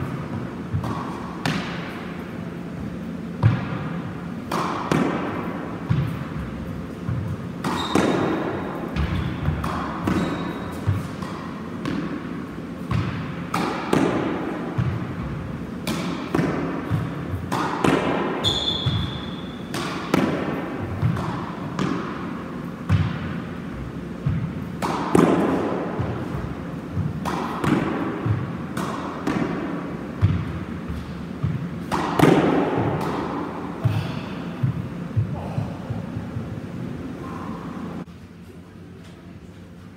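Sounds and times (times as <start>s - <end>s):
squash ball racket strikes: 0.0s - 2.2s, 3.3s - 36.0s.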